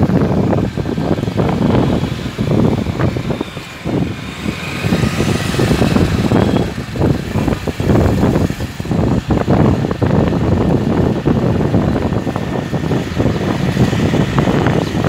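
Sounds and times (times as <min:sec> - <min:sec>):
passing cars: 0:00.0 - 0:15.0
wind rumble on microphone: 0:00.0 - 0:15.0.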